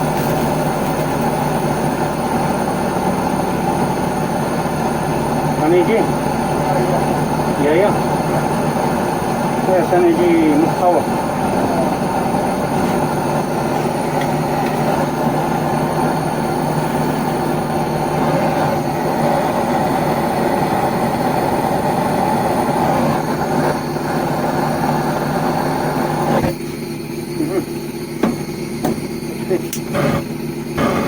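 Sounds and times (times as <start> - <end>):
loud steady mechanical noise: 0.0 - 31.0.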